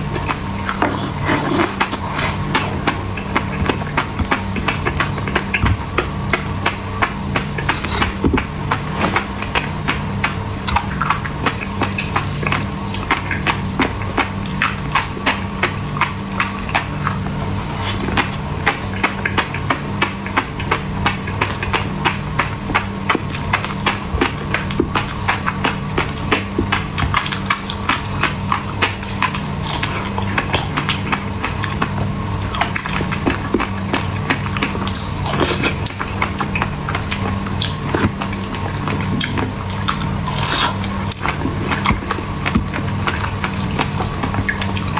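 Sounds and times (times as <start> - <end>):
refrigerator humming: 0.0 - 44.9.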